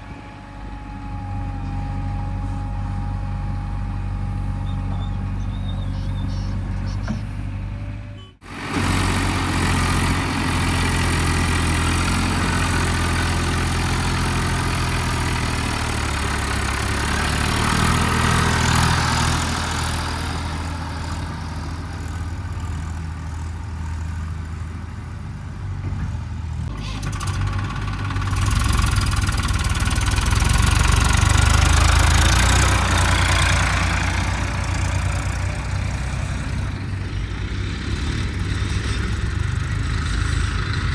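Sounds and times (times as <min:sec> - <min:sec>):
diesel engine working under load: 0:00.0 - 0:40.9.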